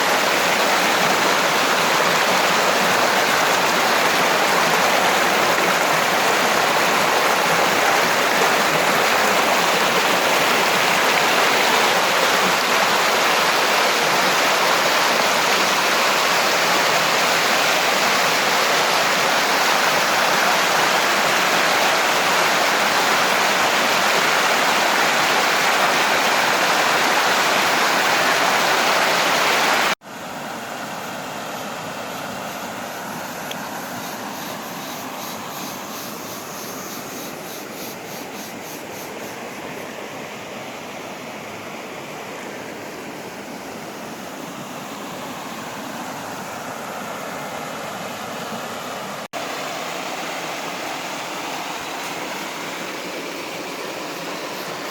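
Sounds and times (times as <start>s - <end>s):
waterfall rushing: 0.0s - 31.0s, 40.3s - 54.9s.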